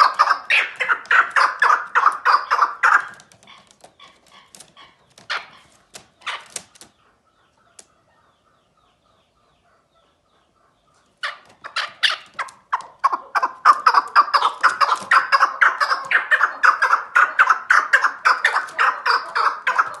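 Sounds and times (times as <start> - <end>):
partridge calling: 0.0 - 20.0.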